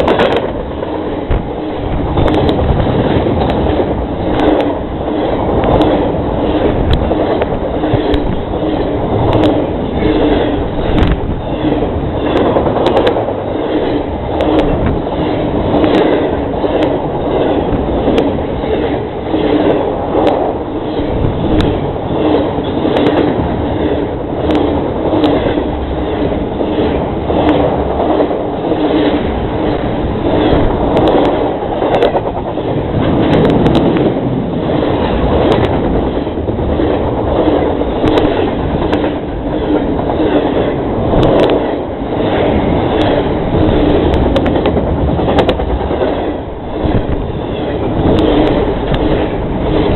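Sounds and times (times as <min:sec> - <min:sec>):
train wheels rumbling on rail: 0:00.0 - 0:49.9
wheels clickety-clack over rail joints: 0:00.0 - 0:49.9.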